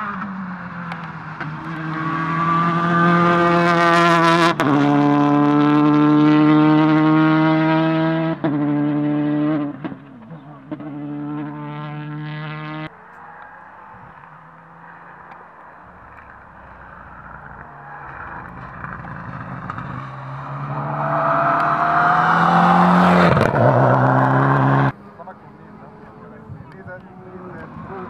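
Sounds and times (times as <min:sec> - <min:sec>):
rally car engine accelerating: 0:00.0 - 0:13.5, 0:16.1 - 0:28.0.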